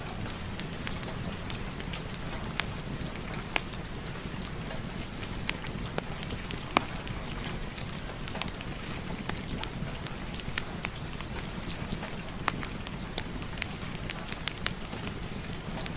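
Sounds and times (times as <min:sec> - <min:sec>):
fire popping: 0:00.0 - 0:15.9
steady rain: 0:00.0 - 0:15.9
wood fire crackling: 0:00.0 - 0:15.9.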